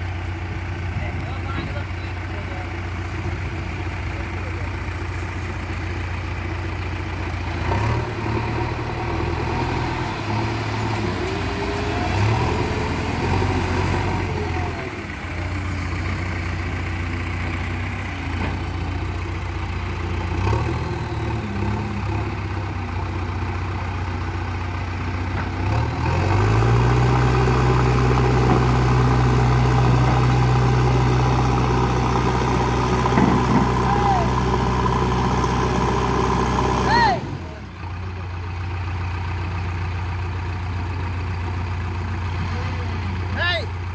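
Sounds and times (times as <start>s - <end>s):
diesel engines revving: 0.0s - 43.9s.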